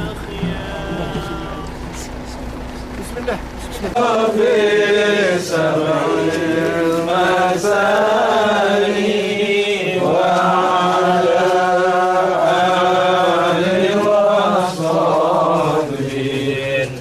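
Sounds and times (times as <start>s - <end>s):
men chanting: 0.0s - 17.0s.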